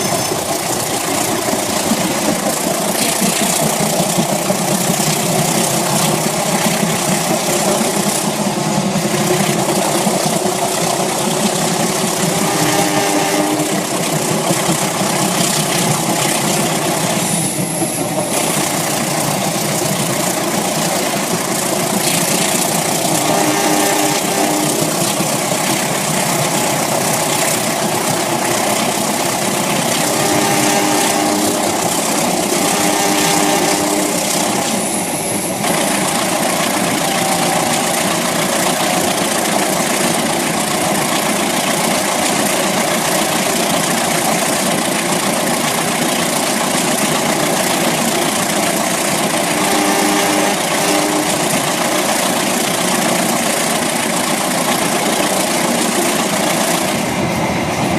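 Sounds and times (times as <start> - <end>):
model train running on track: 0.0 - 57.9.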